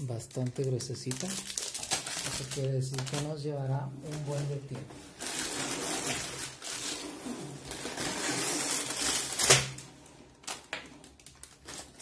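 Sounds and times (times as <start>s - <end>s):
plastic bags crinkling and rattling: 0.0s - 12.0s.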